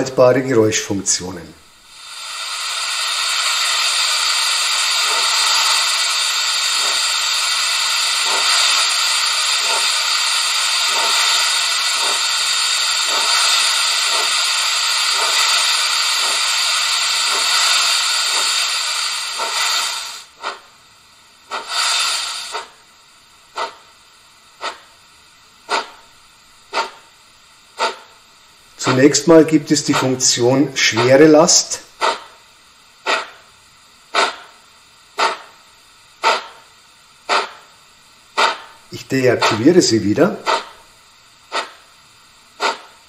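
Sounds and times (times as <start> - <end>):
steam locomotive exhaust chuffs: 0.0 - 43.0
loud hiss of steam: 0.7 - 43.0.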